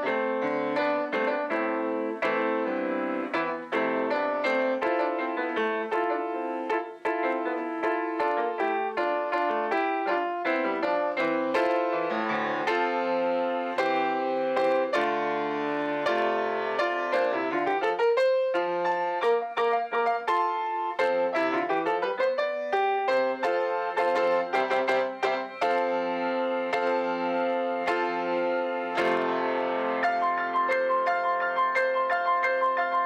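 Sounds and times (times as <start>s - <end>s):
piano playing quick notes: 0.0s - 33.0s.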